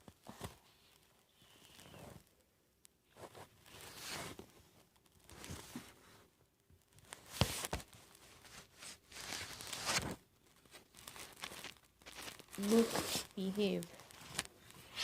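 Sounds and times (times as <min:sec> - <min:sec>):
book pages rustling: 0:00.0 - 0:02.3, 0:03.1 - 0:06.3, 0:07.0 - 0:15.0.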